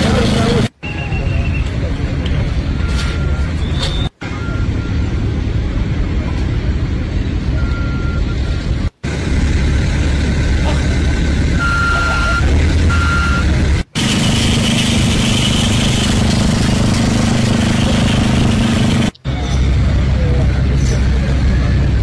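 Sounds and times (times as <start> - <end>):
engine and machinery noise: 0.0 - 22.0.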